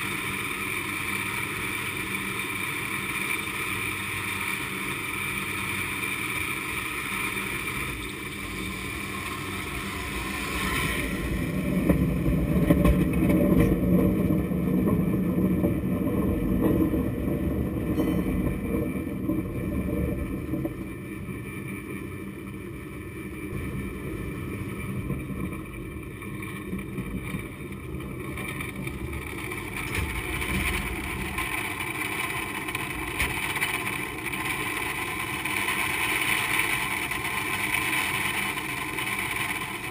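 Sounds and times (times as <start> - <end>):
cable mechanical rumble: 0.0 - 39.9
constant high whine: 0.0 - 39.9.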